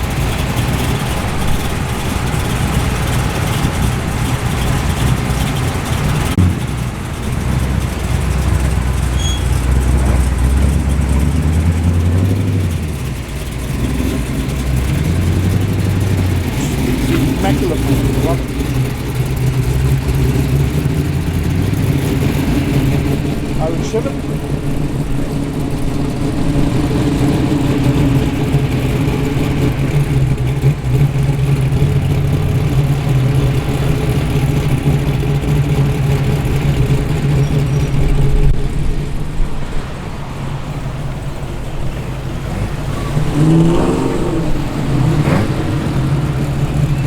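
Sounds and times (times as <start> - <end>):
car engines driving slowly: 0.0 - 47.0.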